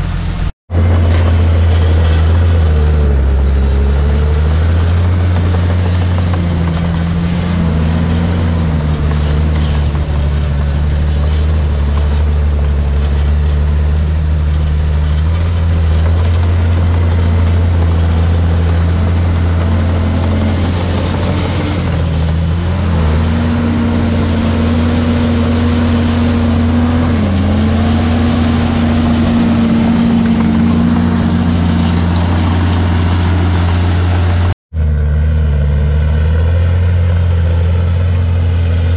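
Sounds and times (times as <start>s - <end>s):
bulldozer diesel engine droning: 0.0s - 38.9s.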